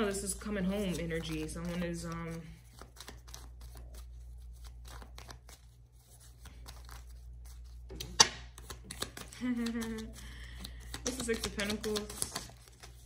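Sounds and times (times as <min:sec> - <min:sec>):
cards clicking and rustling: 0:00.5 - 0:13.0.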